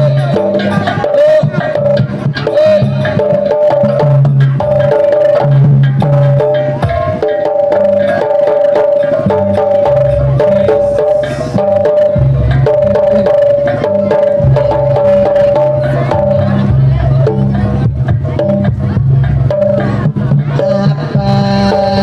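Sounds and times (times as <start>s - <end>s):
drum strokes: 0.0s - 22.0s
pitched metal notes: 0.0s - 22.0s.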